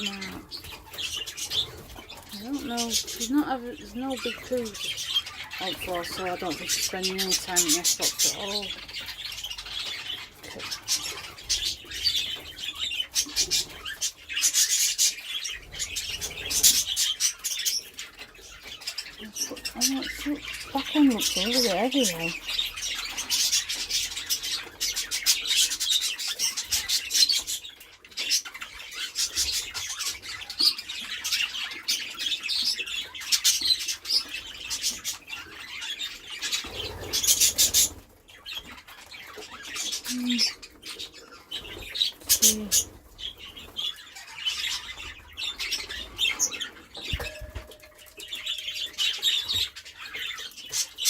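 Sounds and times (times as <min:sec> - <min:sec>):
budgerigars chattering and chirping: 0:00.0 - 0:51.0.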